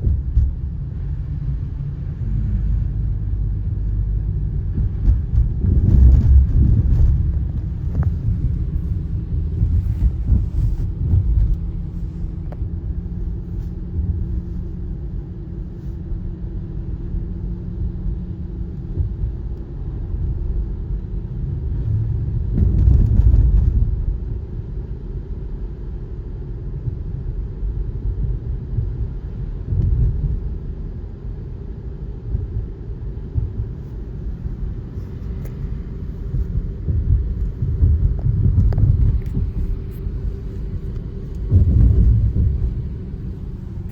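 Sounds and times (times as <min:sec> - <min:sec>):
car road rumble: 0:00.0 - 0:43.9.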